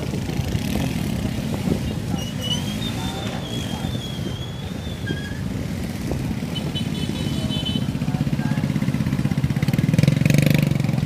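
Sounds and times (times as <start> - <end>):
engine running close by: 0.0 - 11.0
street traffic: 0.0 - 11.0.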